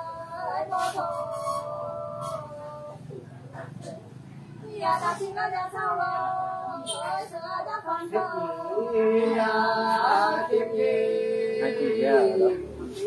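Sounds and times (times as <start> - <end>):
unaccompanied folk singing voices: 0.0 - 13.0.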